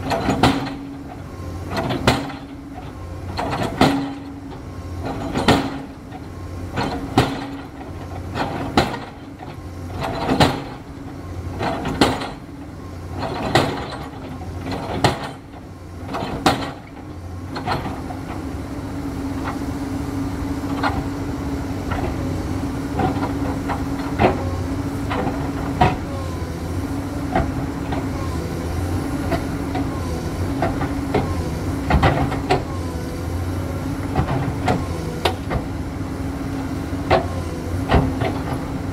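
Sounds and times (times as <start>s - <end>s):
excavator diesel engine: 0.0s - 38.9s.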